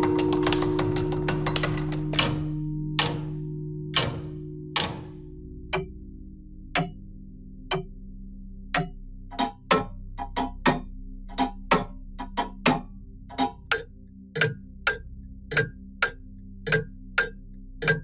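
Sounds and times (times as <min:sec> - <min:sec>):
mechanical clocks ticking: 0:00.0 - 0:03.4, 0:04.0 - 0:05.9, 0:06.8 - 0:07.0, 0:08.8 - 0:18.0.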